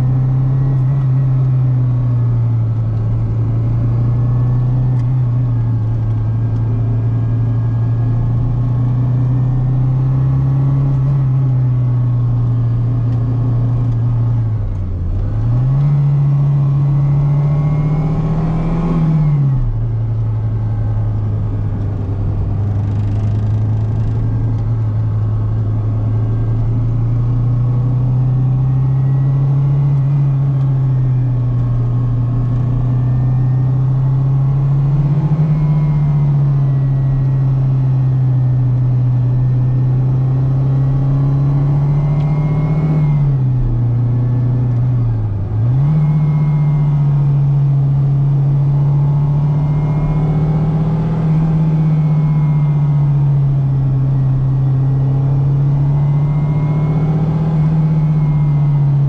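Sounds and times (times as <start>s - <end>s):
car engine revving under load: 0.0s - 59.0s.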